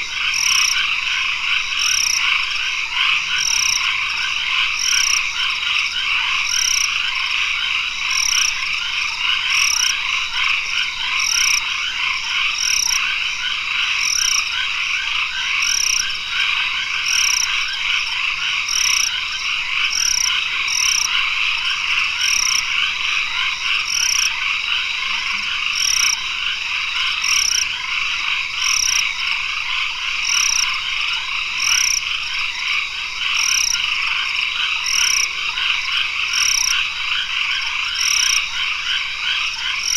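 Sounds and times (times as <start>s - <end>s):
frogs trilling: 0.0s - 39.9s.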